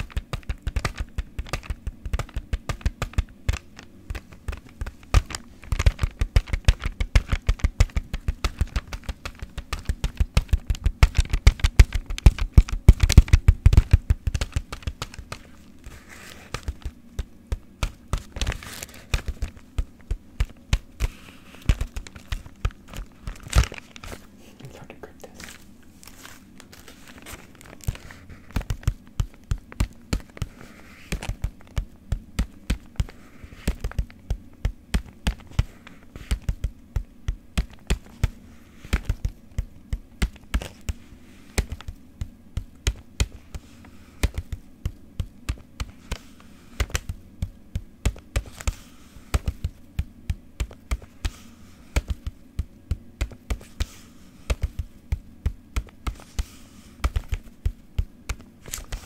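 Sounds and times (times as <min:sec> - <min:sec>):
rhythmic tapping on hard object: 0:00.0 - 0:23.8, 0:27.8 - 0:59.0.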